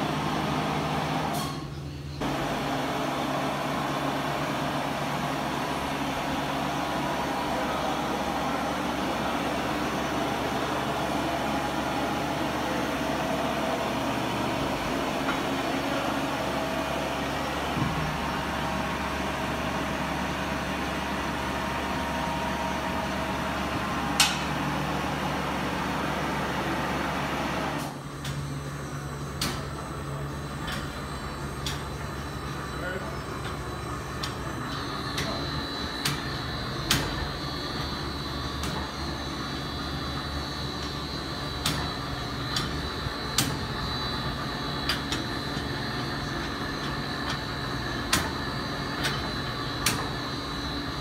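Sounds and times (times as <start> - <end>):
mixer motor hum: 2.2 - 51.0.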